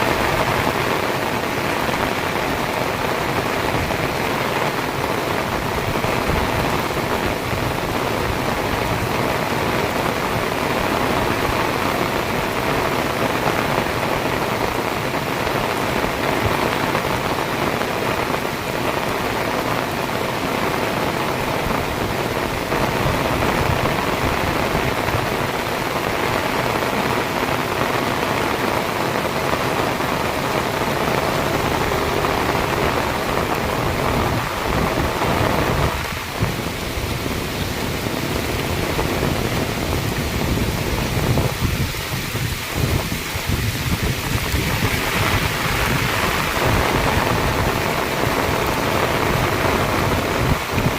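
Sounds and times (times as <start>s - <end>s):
heavy rain on hard surfaces: 0.0s - 50.9s.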